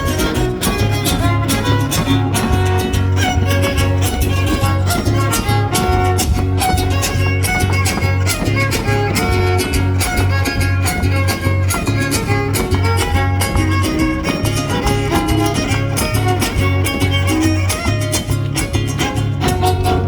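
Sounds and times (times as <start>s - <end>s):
deep bass guitar strumming: 0.0s - 20.0s
strummed guitar rhythm: 0.0s - 20.0s
violin melody: 0.0s - 20.0s.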